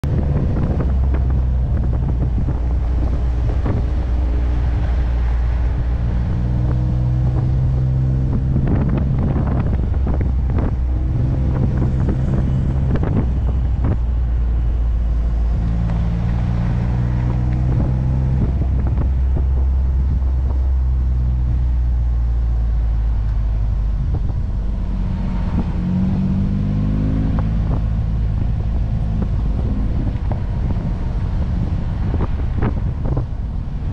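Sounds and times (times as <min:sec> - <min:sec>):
engine running at low revs: 0:00.0 - 0:33.9.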